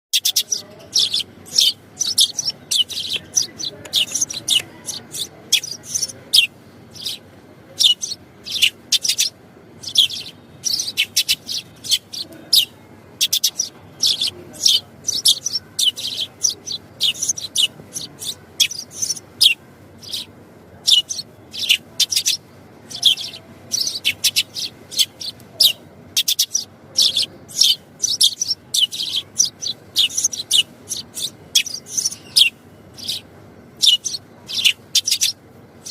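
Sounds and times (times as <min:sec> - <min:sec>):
sparrows chirping: 0:00.1 - 0:35.9.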